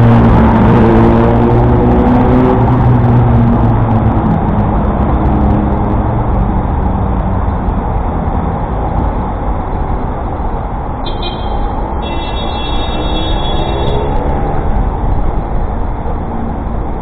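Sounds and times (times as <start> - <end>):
road traffic rumble: 0.0 - 17.0
vehicle engine: 0.0 - 17.0.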